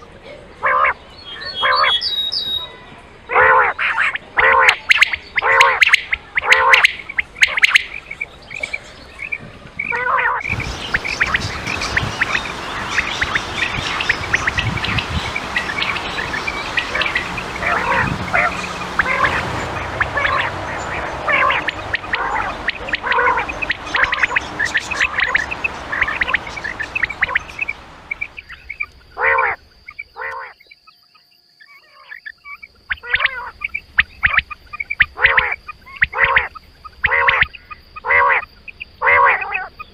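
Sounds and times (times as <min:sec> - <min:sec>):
quail calls: 0:00.6 - 0:02.7, 0:03.3 - 0:30.6, 0:31.6 - 0:39.9.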